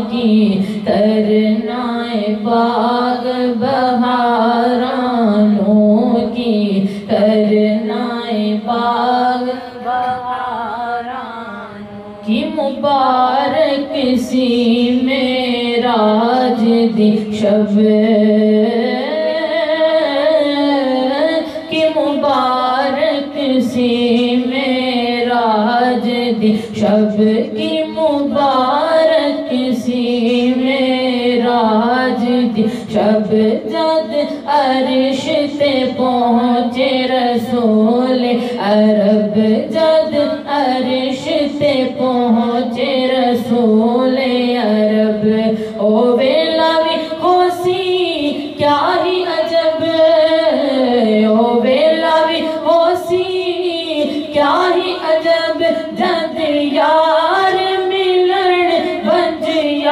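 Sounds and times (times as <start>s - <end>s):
woman singing ornamented phrases: 0.0s - 59.9s.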